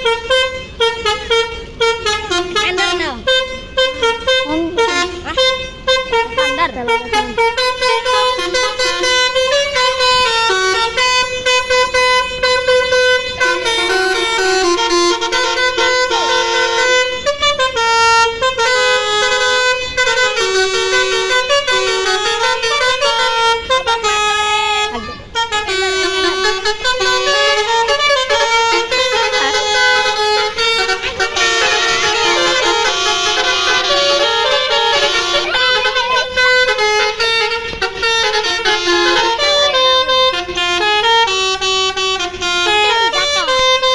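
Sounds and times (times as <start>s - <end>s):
bus air horns playing melody: 0.0s - 43.9s.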